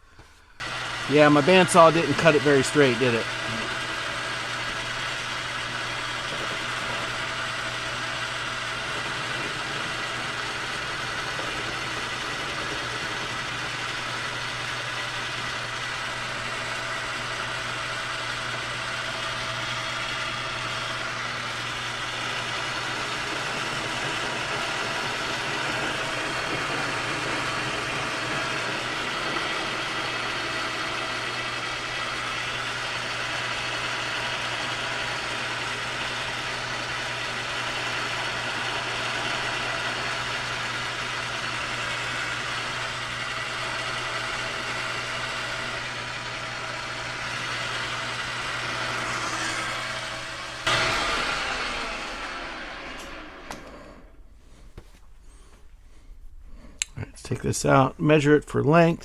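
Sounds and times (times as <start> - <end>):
metal lathe cutting steel: 0.6 - 54.1.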